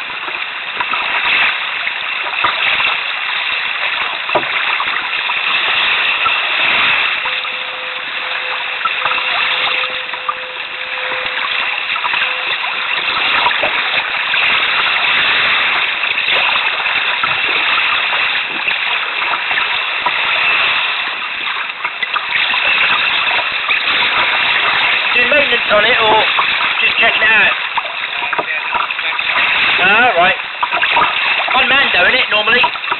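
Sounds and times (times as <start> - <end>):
water splashing against a canoe: 0.0 - 32.9.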